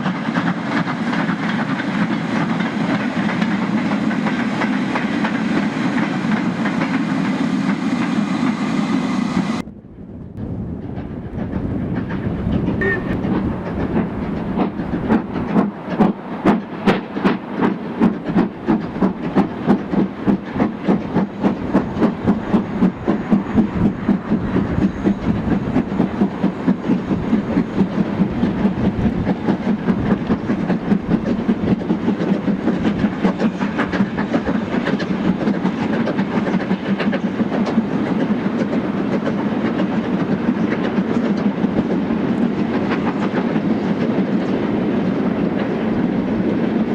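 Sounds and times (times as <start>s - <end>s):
steam locomotive exhaust beats: 0.0s - 46.9s.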